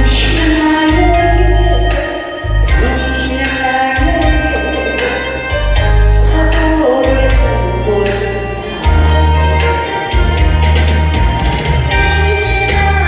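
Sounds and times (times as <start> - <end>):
accompaniment with heavy bass beat: 0.0 - 13.0
woman singing with vibrato: 0.0 - 13.0.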